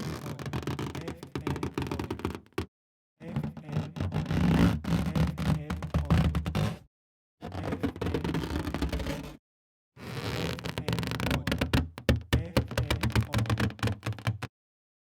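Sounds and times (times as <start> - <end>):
balloon crackling and squeaking: 0.0 - 9.4, 10.0 - 14.5
buzzy rubbery balloon sound: 0.0 - 9.4, 10.0 - 14.5.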